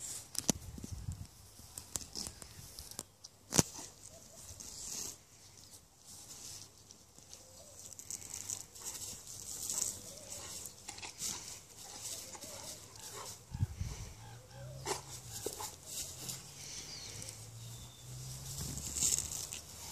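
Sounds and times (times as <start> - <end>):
weeds rustling and tearing: 0.0 - 19.9.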